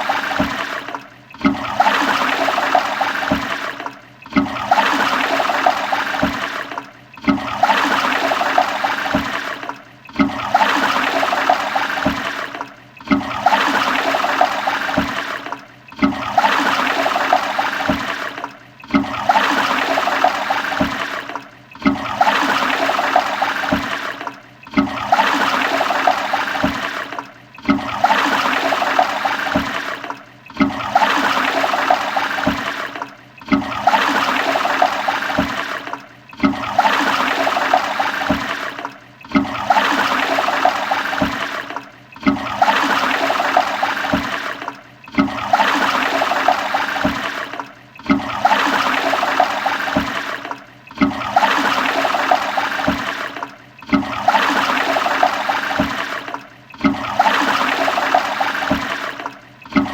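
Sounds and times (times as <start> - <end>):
toilet flushing: 0.0 - 59.9.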